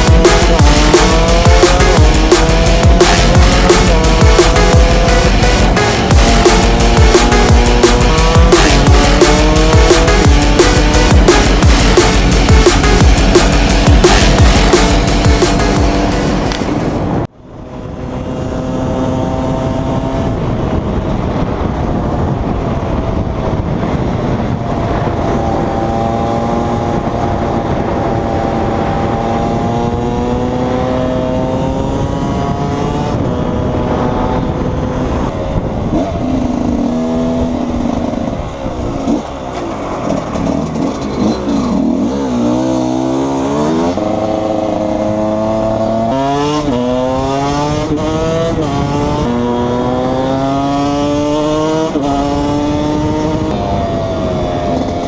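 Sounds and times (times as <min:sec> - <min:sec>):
two-stroke motorcycle engine revving: 0:00.0 - 0:17.2, 0:24.0 - 0:55.0.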